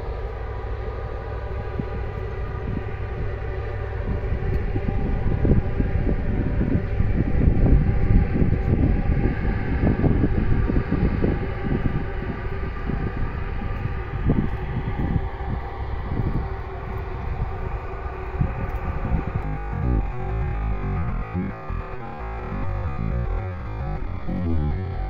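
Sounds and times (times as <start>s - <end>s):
faint steady hum: 0.0s - 25.0s
wind buffeting microphone: 1.2s - 25.0s.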